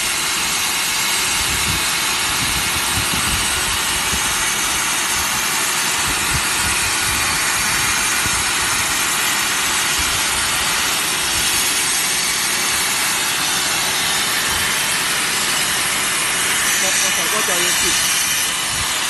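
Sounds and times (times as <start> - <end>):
plasma torch hissing: 0.0 - 19.0.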